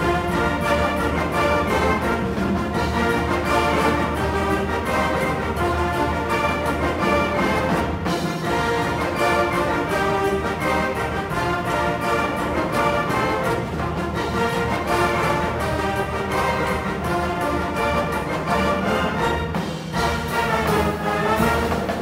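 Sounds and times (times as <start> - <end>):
orchestral music with brass: 0.0 - 22.0.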